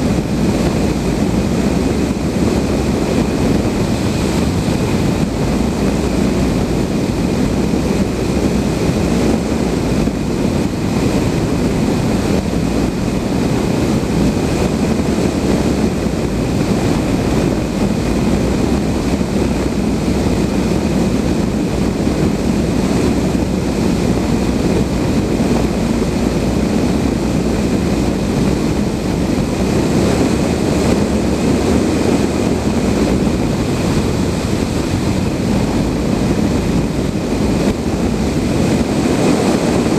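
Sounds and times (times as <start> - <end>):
airflow rushing around cockpit: 0.0 - 39.9.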